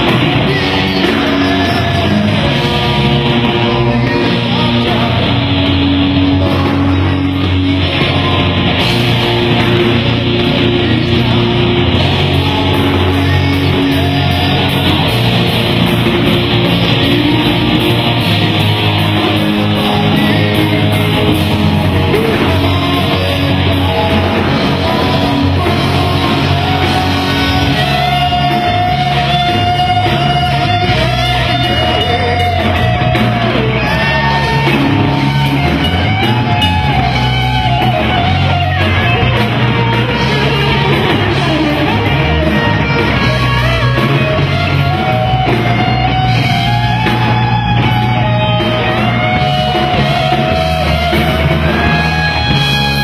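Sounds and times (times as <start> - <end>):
person singing: 0.0 - 53.0
rock music with electric guitar: 0.0 - 53.0.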